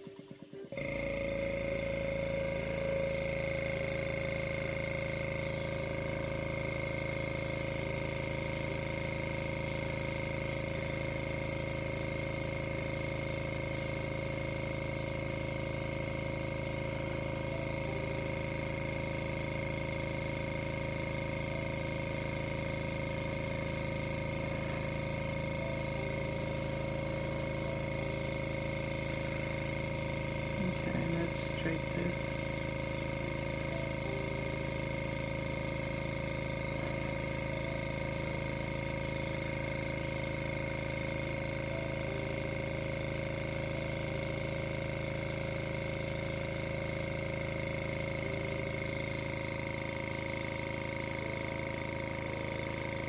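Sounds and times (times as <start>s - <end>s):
air compressor humming: 0.0s - 53.0s
airbrush hissing air: 0.0s - 53.0s.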